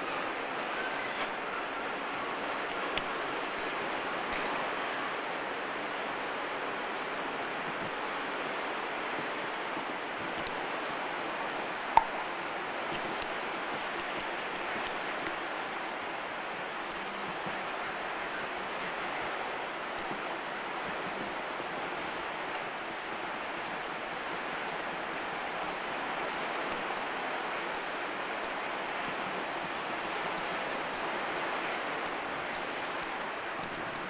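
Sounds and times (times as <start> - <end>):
sea surf washing: 0.0 - 34.0.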